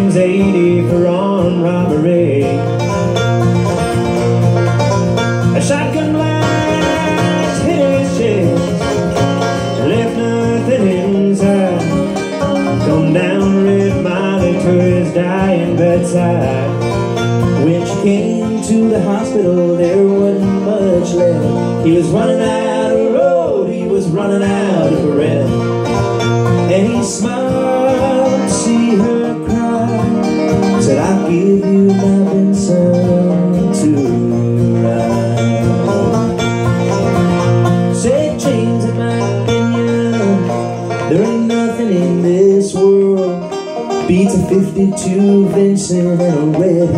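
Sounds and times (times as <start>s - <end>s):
banjo picking quick notes: 0.0s - 46.9s
strummed acoustic guitar: 0.0s - 46.9s.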